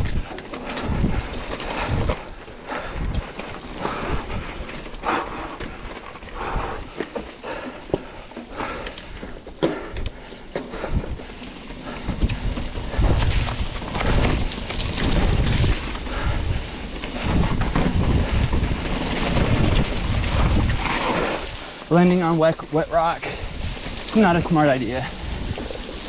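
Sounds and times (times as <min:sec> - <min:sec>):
bike tyres crunching on rock: 0:00.0 - 0:26.0
wind rumbling on microphone: 0:00.0 - 0:26.0.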